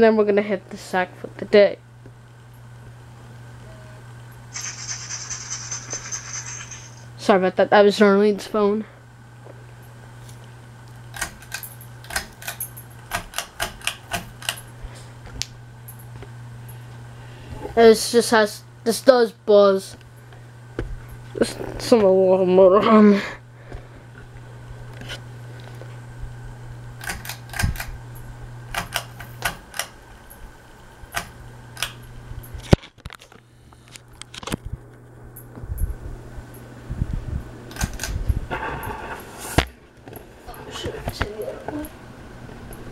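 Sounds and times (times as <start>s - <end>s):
ceiling fan motor buzzing: 0.0s - 42.9s.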